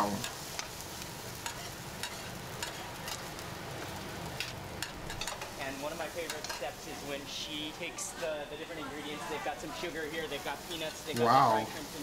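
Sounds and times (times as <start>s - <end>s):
noodles sizzling on pan: 0.0s - 12.0s.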